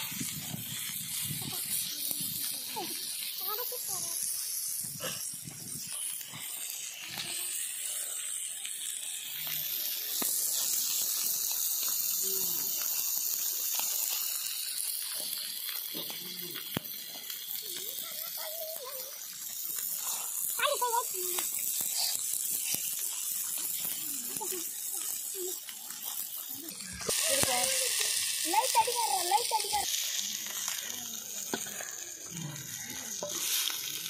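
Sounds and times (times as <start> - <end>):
fish sizzling in oil: 0.0 - 34.0.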